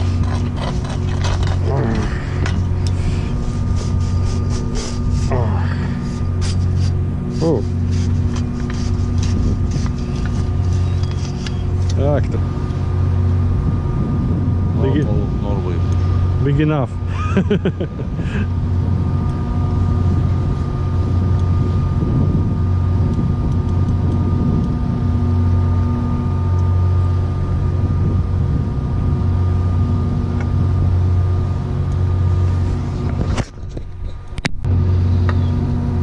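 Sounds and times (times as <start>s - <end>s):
ship machinery humming: 0.0s - 33.6s, 34.3s - 36.0s.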